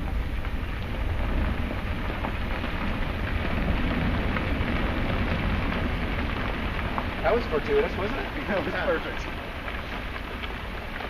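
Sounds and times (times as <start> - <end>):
deep volcanic rumble: 0.0 - 11.0.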